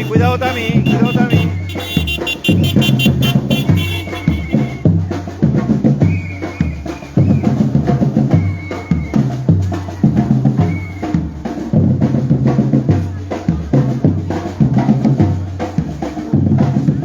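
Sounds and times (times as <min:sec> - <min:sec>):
deep bass drums: 0:00.0 - 0:17.0
rolling snare drums: 0:00.0 - 0:17.0.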